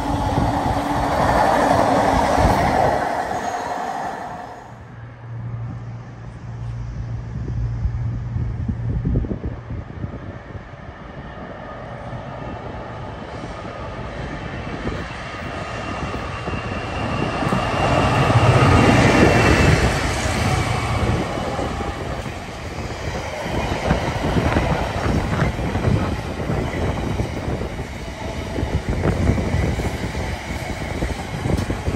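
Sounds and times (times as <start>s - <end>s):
diesel locomotive passing: 0.0s - 31.9s.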